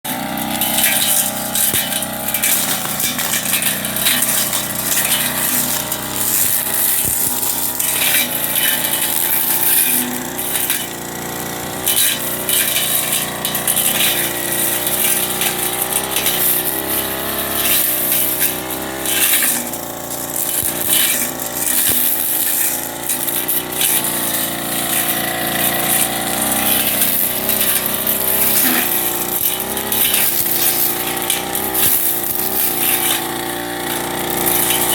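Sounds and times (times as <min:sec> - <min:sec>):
blade rasping against grass: 0:00.0 - 0:34.9
brush cutter engine running: 0:00.0 - 0:34.9.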